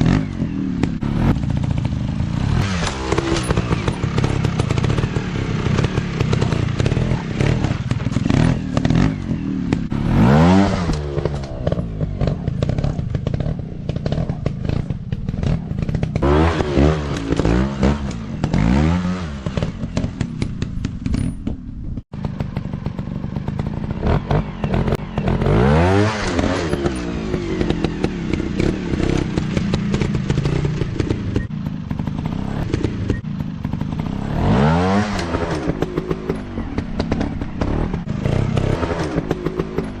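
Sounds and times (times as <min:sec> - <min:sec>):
dirt bike engine revving: 0:00.0 - 0:21.3, 0:22.2 - 0:40.0.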